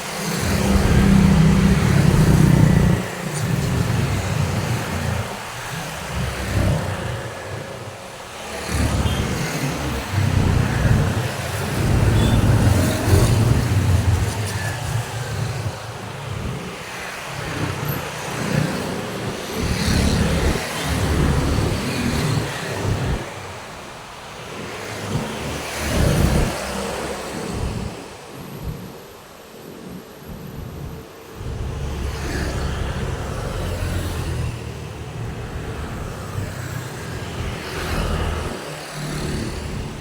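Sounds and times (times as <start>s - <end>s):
vehicles passing: 0.0s - 28.8s, 31.3s - 40.0s
steady road hum: 0.0s - 40.0s.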